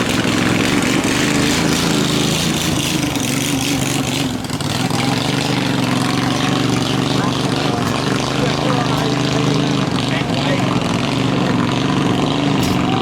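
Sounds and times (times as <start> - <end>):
racing boat engines: 0.0 - 13.0.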